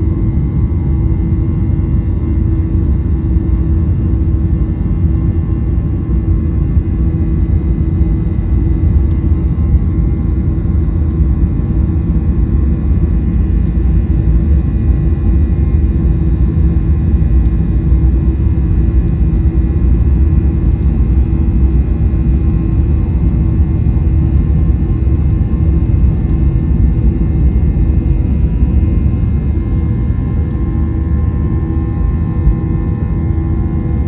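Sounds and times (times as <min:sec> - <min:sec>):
aircraft cabin engine rumble: 0:00.0 - 0:34.0
steady hum: 0:00.0 - 0:34.0.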